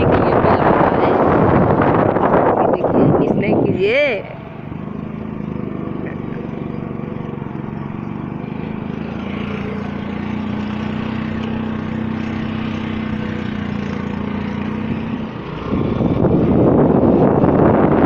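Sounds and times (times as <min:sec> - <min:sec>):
small vehicle engine running: 0:00.0 - 0:18.0
wind buffeting on microphone: 0:00.0 - 0:18.0.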